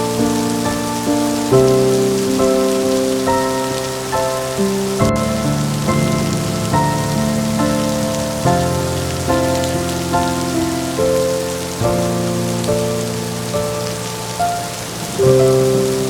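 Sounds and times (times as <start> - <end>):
slow soft instrumental music: 0.0 - 16.0
steady rain hiss: 0.0 - 16.0.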